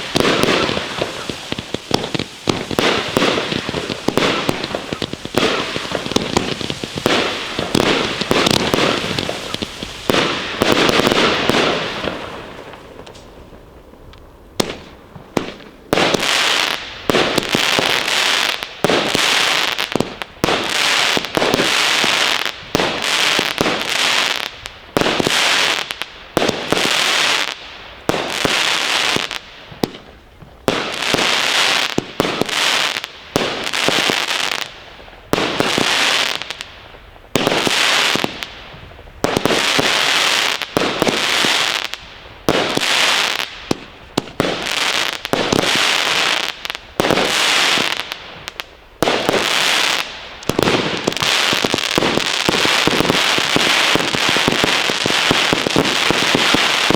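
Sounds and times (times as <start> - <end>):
firework cracks: 0.0 - 56.9
fireworks hissing and crackling: 0.0 - 56.9.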